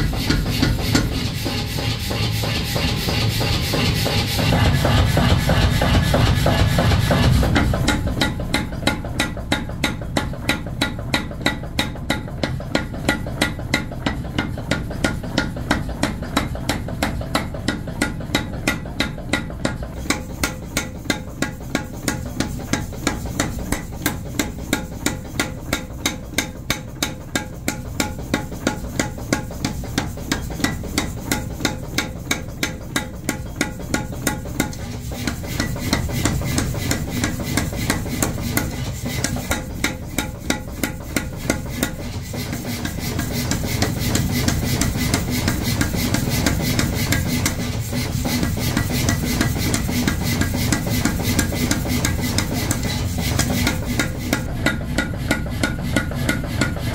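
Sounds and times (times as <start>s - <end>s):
power hammer pounding steel: 0.0s - 56.9s.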